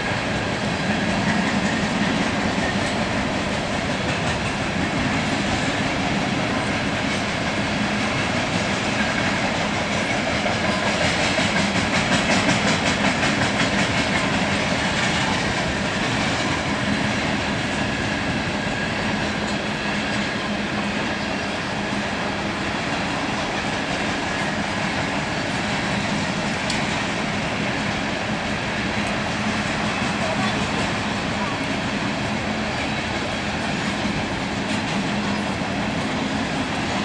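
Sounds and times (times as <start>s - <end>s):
freight train rumbling past: 0.0s - 37.0s
wheels clicking over rail joints: 0.1s - 20.5s, 22.5s - 37.0s.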